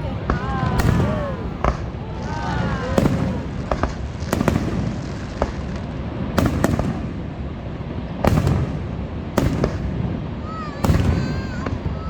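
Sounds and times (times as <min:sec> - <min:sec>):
background rumble: 0:00.0 - 0:12.0
fireworks bursting: 0:00.0 - 0:12.0.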